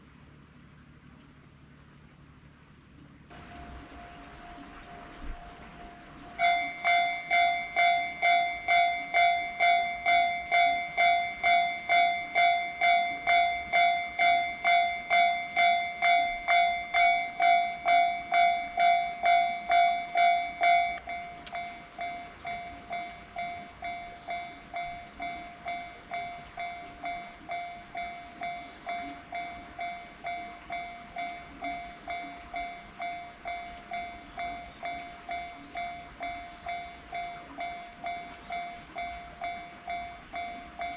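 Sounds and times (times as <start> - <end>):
level crossing bell ringing: 3.4 - 40.9.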